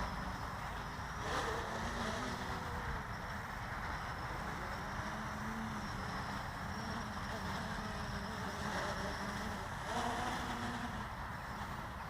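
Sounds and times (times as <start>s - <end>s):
quadcopter motors humming: 0.0s - 12.0s
wind rumbling on microphone: 0.0s - 12.0s.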